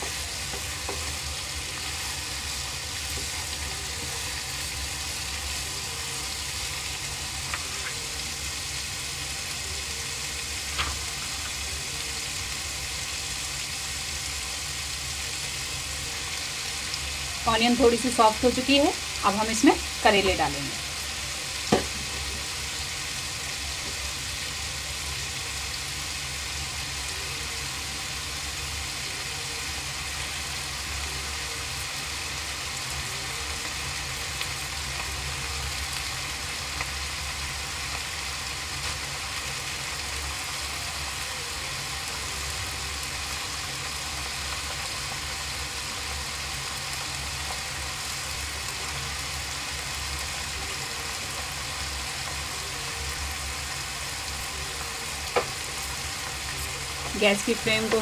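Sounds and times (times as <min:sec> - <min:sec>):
vegetables sizzling in a pan: 0:00.0 - 0:58.0.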